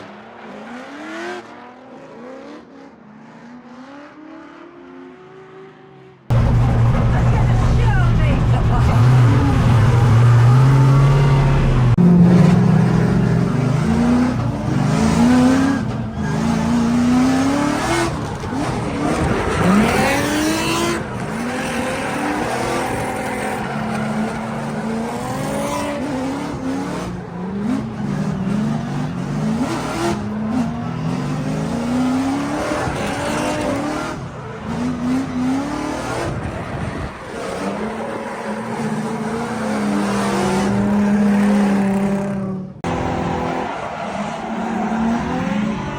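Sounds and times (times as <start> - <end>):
car engine revving: 6.3 - 45.9.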